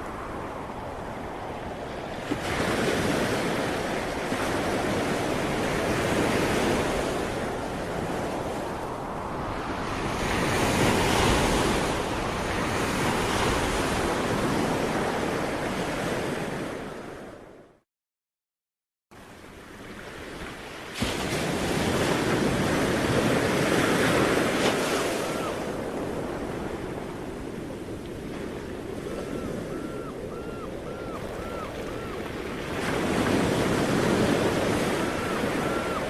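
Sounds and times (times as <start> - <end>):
ocean waves breaking on shore: 0.0 - 17.8, 19.2 - 36.0.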